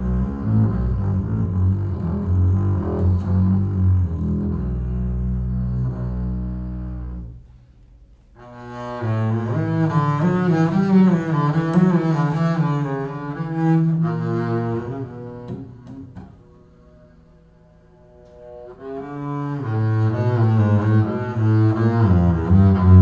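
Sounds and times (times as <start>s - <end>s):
double bass played with a bow: 0.0s - 23.0s.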